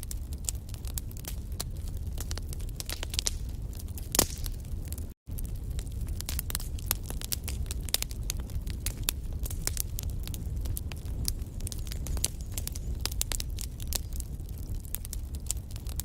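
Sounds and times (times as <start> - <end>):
fireplace fire crackling and popping: 0.0 - 16.0.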